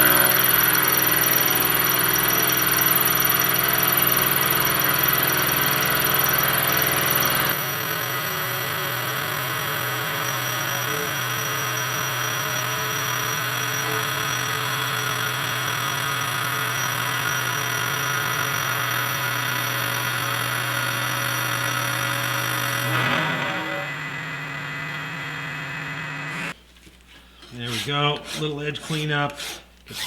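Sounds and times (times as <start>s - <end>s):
milling machine cutting steel: 0.0s - 26.6s
motor hum: 0.0s - 26.6s.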